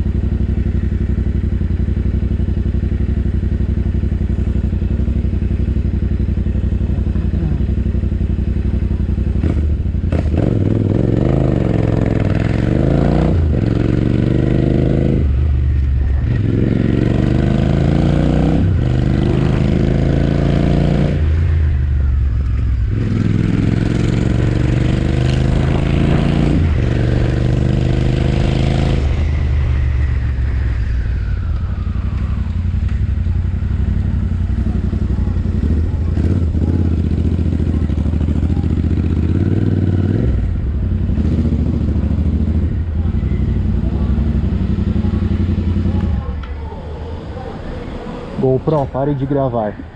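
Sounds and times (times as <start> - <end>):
motorcycle engine revving through gears: 0.0 - 49.9.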